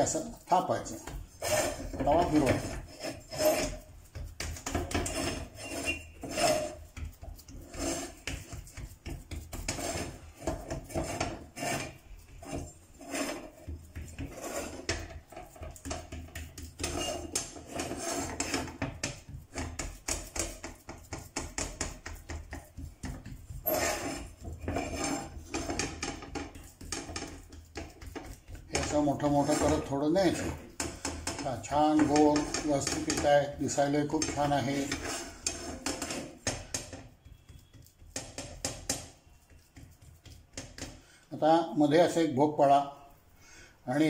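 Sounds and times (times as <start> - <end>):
griddle scraping on stove grate: 0.0 - 41.2
hands patting dough: 3.8 - 41.2.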